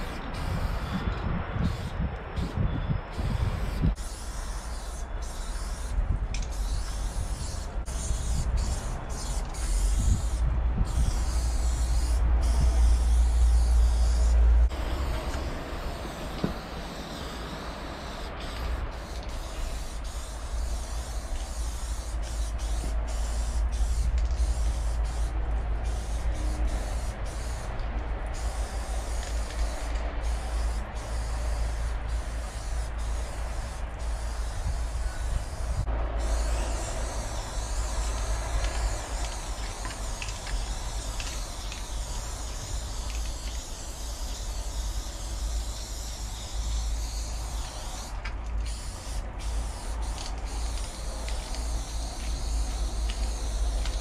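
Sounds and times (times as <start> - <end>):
spray can hissing: 0.0 - 1.0, 3.2 - 54.0
steady low rumble: 0.0 - 54.0.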